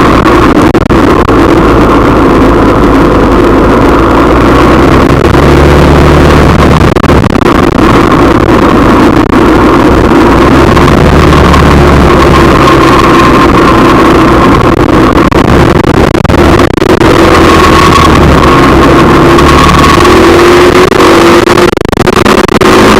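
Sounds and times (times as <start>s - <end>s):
road noise: 0.0s - 22.9s
vehicle engine droning: 0.0s - 22.9s.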